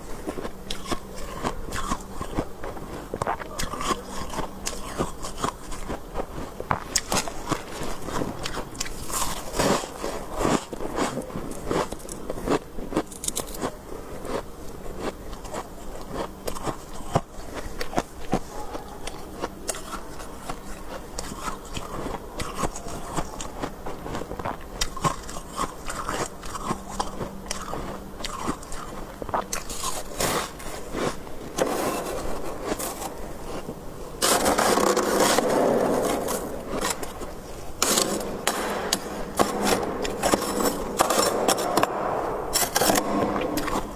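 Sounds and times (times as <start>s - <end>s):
chewing crunchy frost: 0.0s - 43.9s.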